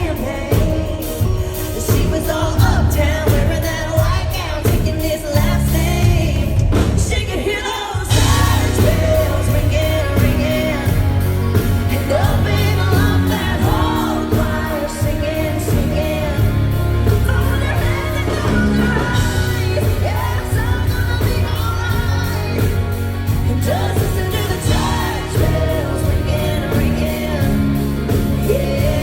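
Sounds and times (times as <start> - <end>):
country-rock band playing: 0.0 - 29.0
steady drum beat: 0.0 - 29.0
woman singing: 0.0 - 29.0.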